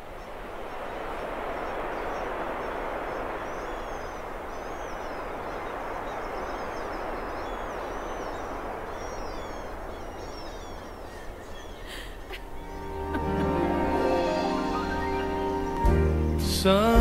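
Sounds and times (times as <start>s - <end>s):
small birds chirping: 0.0s - 15.9s
steady outdoor noise: 0.0s - 17.0s.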